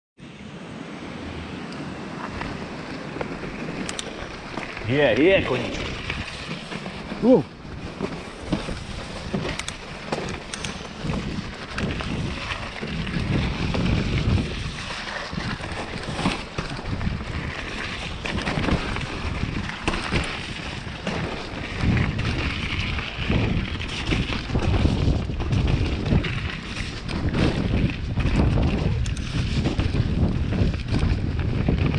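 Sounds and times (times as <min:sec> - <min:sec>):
tyres rolling over dirt: 0:00.3 - 0:31.9
wind buffeting microphone: 0:00.6 - 0:31.9
bike knocks and rattles: 0:02.3 - 0:31.9.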